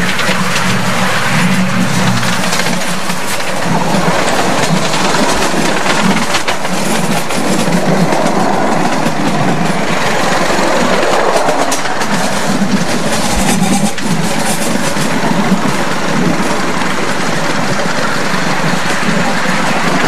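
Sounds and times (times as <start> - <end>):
miniature train rumble: 0.0 - 20.0
wheels clicking over rail joints: 0.0 - 20.0.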